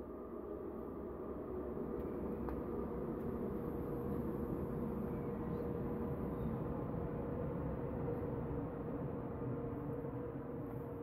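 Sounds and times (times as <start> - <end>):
electric locomotive hum: 0.0 - 11.0
low train rumble: 0.0 - 11.0.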